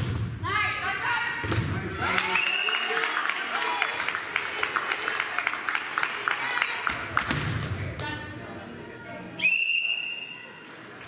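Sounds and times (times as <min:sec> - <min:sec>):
gym chatter: 0:00.3 - 0:11.0.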